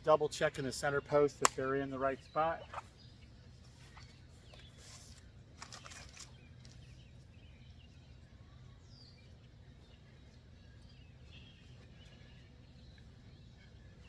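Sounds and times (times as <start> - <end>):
faint distant bird chirps: 0.0 - 14.0.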